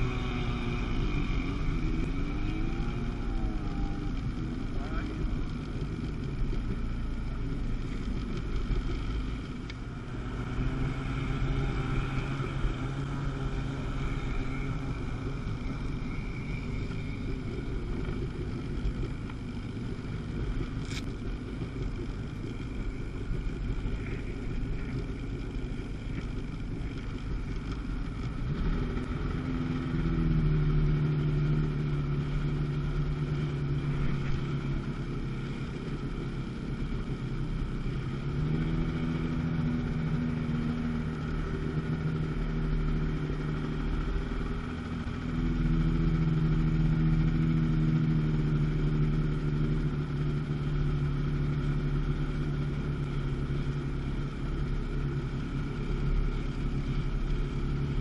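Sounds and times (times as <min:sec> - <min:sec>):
jet ski engine: 0:00.0 - 0:58.0.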